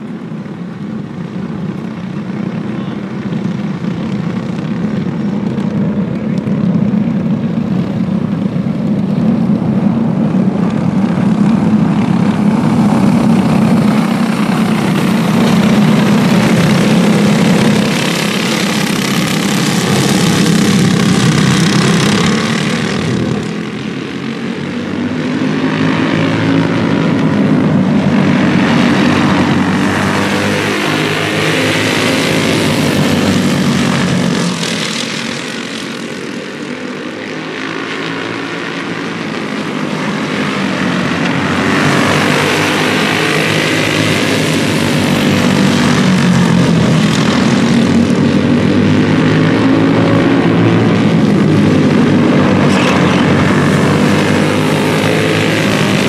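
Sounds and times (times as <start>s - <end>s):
go-kart engines droning: 0.0s - 56.0s.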